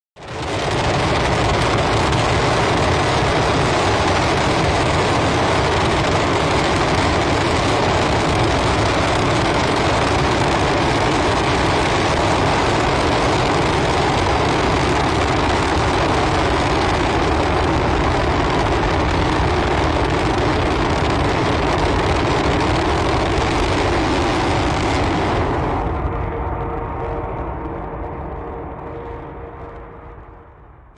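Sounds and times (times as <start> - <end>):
rocket engines roaring: 0.2 - 30.9.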